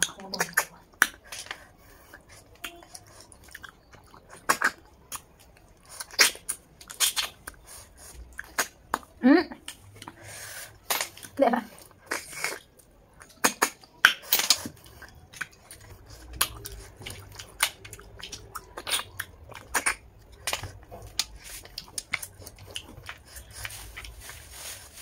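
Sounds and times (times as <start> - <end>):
snails sucked and chewed: 0.0 - 25.0.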